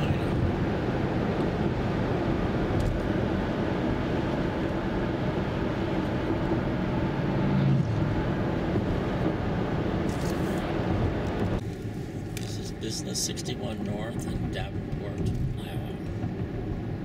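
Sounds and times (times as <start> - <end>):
car engine hum: 0.0 - 17.0
road and tyre noise: 0.0 - 17.0.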